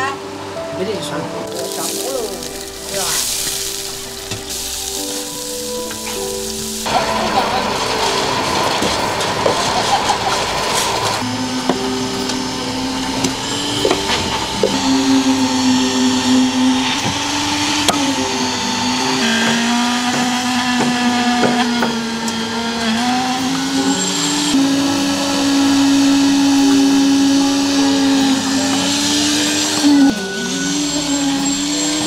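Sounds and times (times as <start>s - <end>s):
machinery motor humming: 0.0s - 32.0s.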